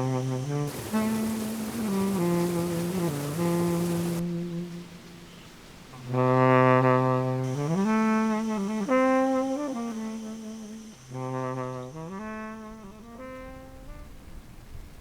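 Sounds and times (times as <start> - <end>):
brass-like wind instrument melody: 0.0 - 5.3, 6.0 - 14.4.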